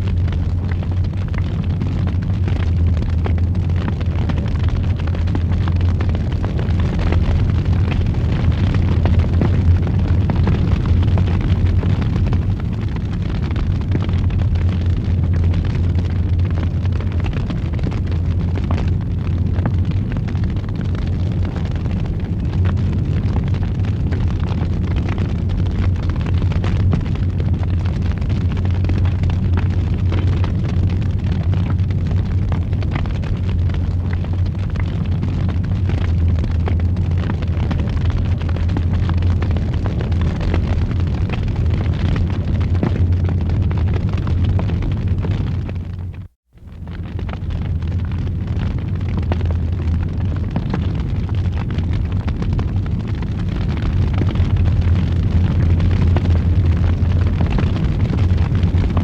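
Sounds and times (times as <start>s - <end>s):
fire crackling and popping: 0.0s - 59.0s
fire roaring in fireplace: 0.0s - 59.0s.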